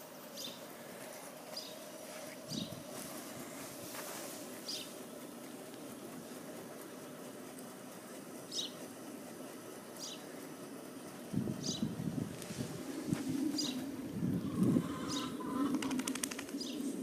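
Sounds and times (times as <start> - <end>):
engine running with low hum: 0.0 - 17.0.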